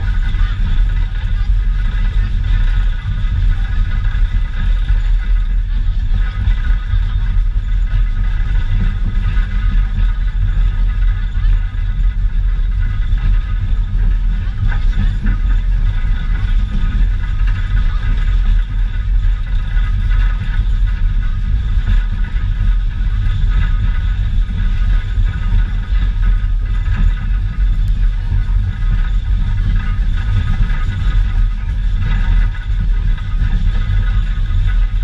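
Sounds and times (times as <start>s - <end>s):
faint high whine: 0.0s - 35.0s
railway car rumbling on track: 0.0s - 35.0s
wind buffeting microphone: 0.0s - 35.0s.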